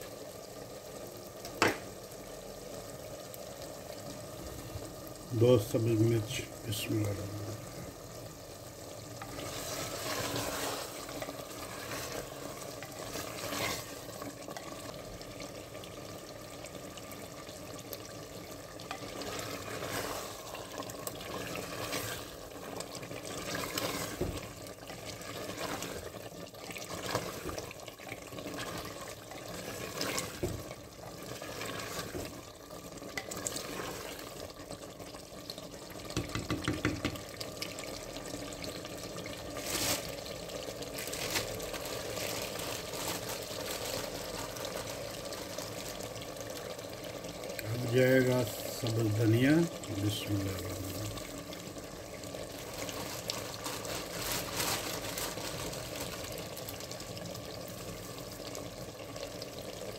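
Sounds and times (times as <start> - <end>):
gravy sizzling in pot: 0.0 - 59.9.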